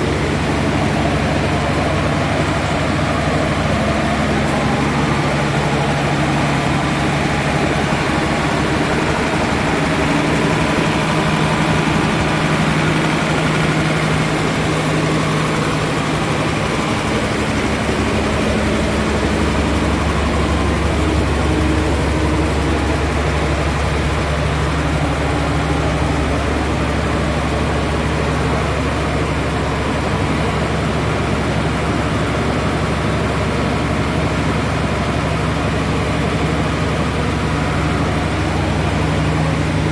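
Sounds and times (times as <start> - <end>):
diesel engine running: 0.0 - 39.9
vacuum pump running: 0.0 - 39.9.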